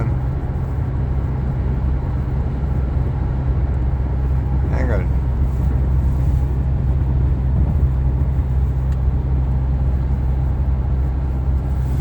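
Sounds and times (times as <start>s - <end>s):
road and engine rumble in cabin: 0.0s - 12.0s.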